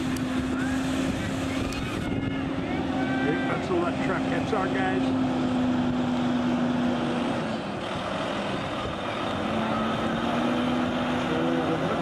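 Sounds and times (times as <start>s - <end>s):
outdoor noise: 0.0s - 12.0s
truck engine passing: 0.0s - 12.0s.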